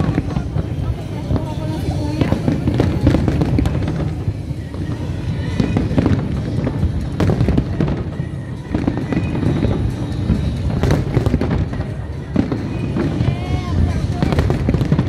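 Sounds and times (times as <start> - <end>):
fireworks booming and crackling: 0.0 - 15.0
sharp fireworks bangs: 0.0 - 15.0.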